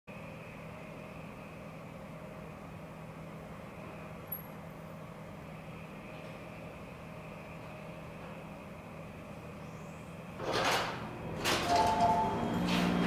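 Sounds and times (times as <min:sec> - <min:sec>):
steady background hum: 0:00.1 - 0:13.0.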